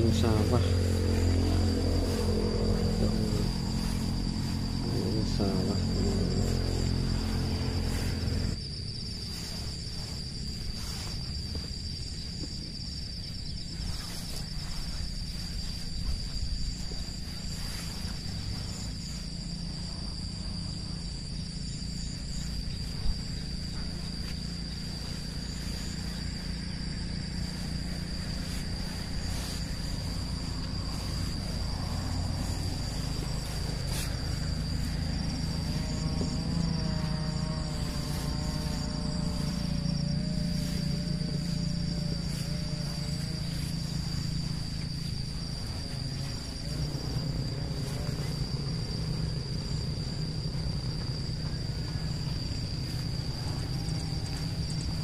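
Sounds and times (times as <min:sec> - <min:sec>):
insects trilling: 0:00.0 - 0:55.0
low outdoor rumble: 0:00.0 - 0:55.0.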